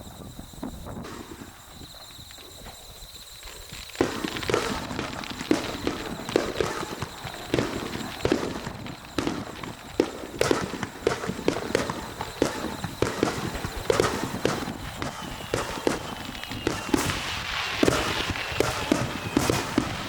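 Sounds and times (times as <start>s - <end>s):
fireworks popping: 0.0s - 20.0s.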